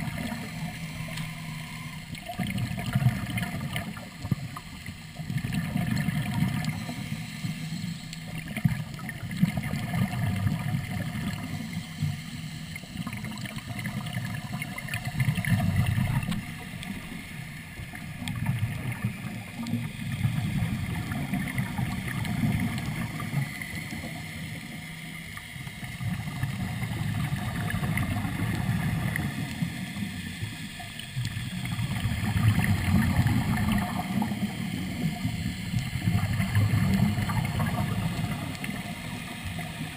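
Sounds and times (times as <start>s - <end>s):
exhaled bubbles streaming: 0.0s - 39.9s
muffled underwater rumble: 0.0s - 39.9s.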